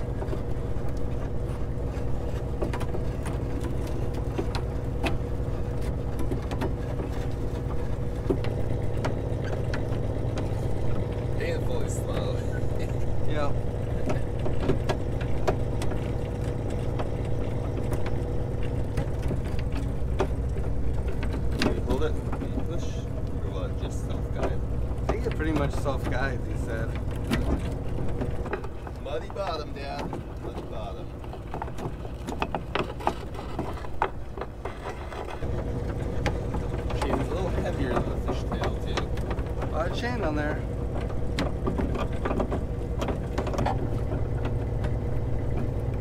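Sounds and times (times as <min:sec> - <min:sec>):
deep machinery hum: 0:00.0 - 0:46.0
windlass mechanical drone: 0:00.0 - 0:46.0.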